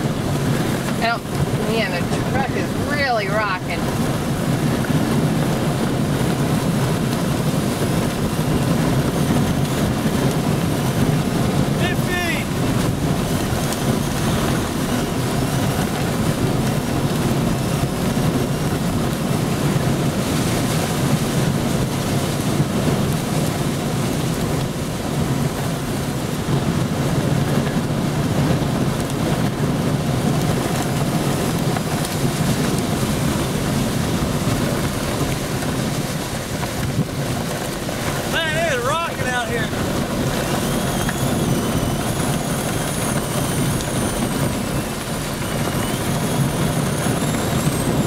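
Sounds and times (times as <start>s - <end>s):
strong wind rushing: 0.0s - 48.0s
wind buffeting microphone: 0.0s - 48.0s.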